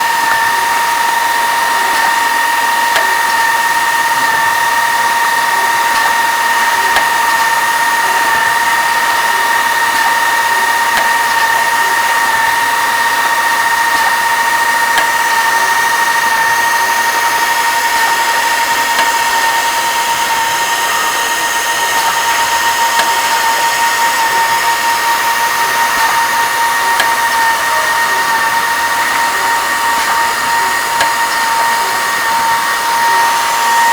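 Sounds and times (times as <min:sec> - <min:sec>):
pneumatic machine whine: 0:00.0 - 0:33.9.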